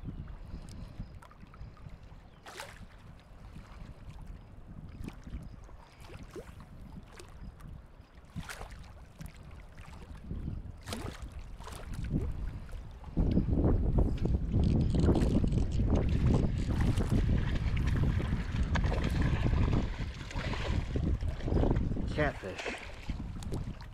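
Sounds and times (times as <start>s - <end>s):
wind rumbling on microphone: 0.0s - 23.9s.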